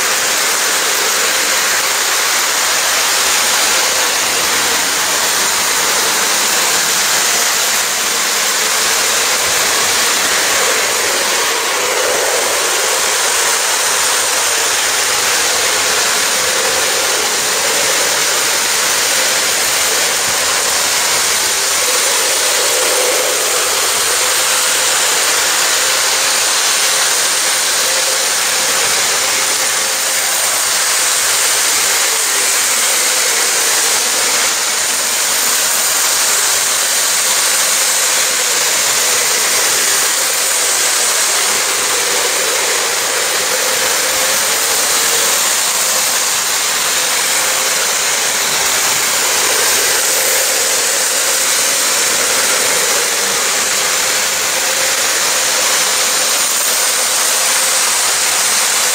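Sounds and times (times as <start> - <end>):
model train whirring rumble: 0.0 - 58.9.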